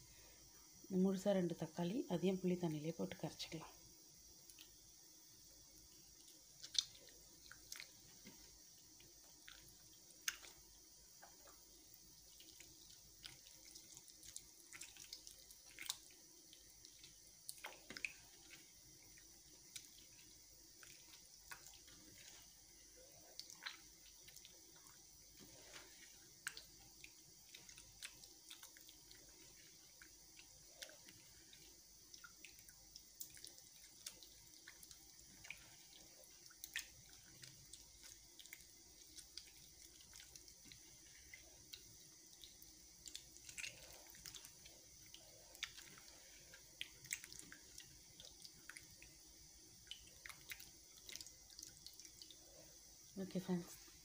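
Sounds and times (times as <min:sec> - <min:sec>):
water dripping: 0:01.5 - 0:54.0
wet squelches of tomatoes: 0:04.3 - 0:05.0, 0:05.6 - 0:54.0.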